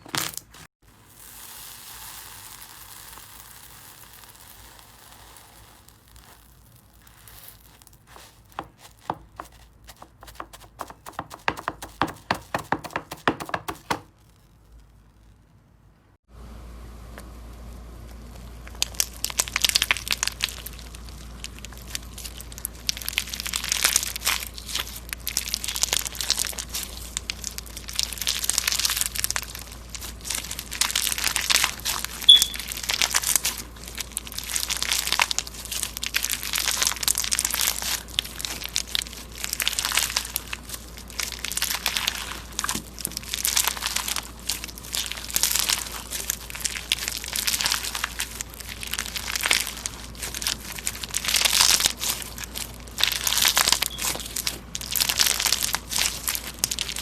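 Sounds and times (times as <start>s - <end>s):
slime crackling and popping: 1.0s - 15.5s, 18.6s - 57.0s.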